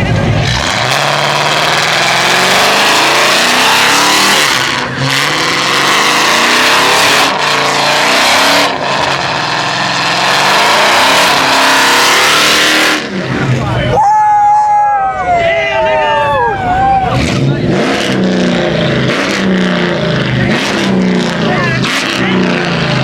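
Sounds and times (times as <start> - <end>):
car engine revving hard: 0.0 - 13.7, 17.2 - 23.0.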